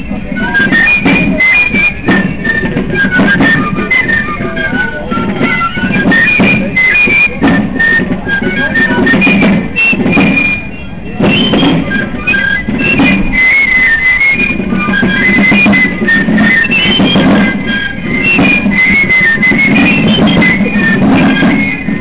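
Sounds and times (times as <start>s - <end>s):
drums keeping steady beat: 0.0s - 22.0s
piccolos playing quick melody: 0.0s - 22.0s.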